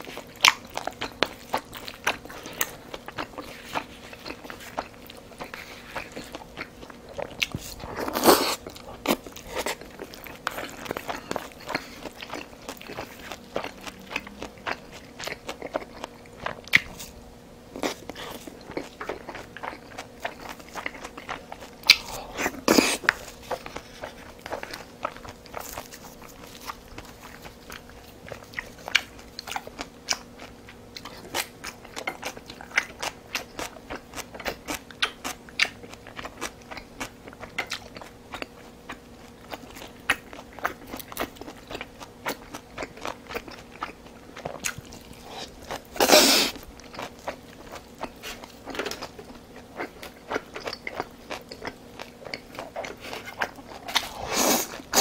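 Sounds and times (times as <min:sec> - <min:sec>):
person chewing and biting food: 0:00.0 - 0:55.0.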